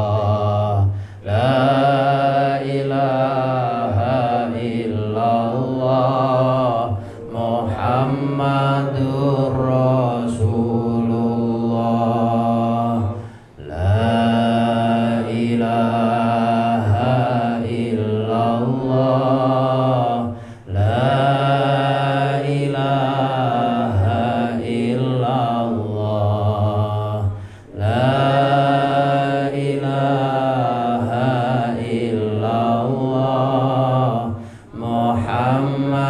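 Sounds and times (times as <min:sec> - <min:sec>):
man chanting: 0:00.0 - 0:36.0.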